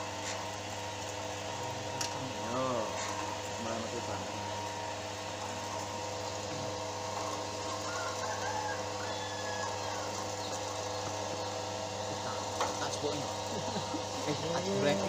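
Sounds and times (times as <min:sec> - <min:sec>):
extruder machine humming: 0:00.0 - 0:15.0.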